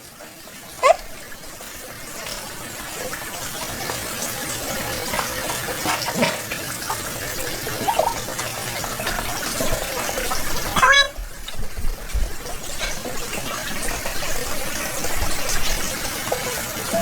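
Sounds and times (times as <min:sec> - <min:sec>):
water pouring steadily: 0:00.0 - 0:17.0.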